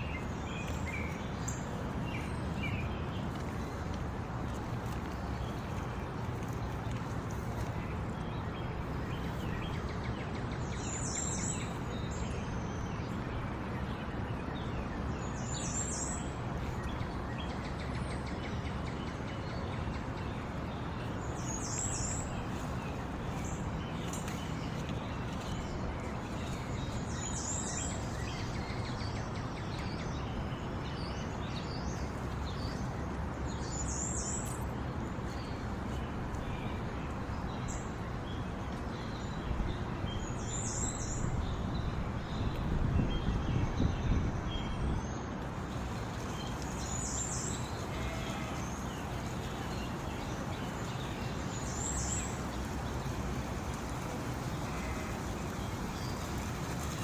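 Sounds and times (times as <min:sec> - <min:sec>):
flowing water: 0:00.0 - 0:43.0, 0:45.3 - 0:57.0.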